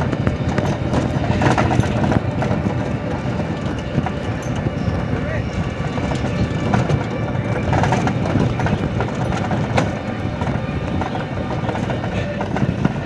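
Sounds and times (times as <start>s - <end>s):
body clattering and rattling: 0.0s - 13.0s
road noise rumble: 0.0s - 13.0s.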